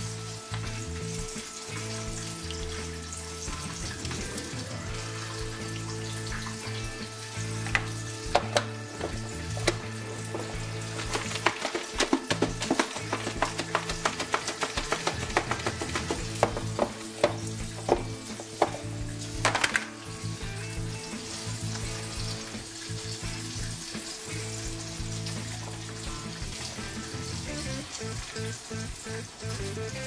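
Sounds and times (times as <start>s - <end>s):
pork chop frying in oil: 0.0s - 30.0s.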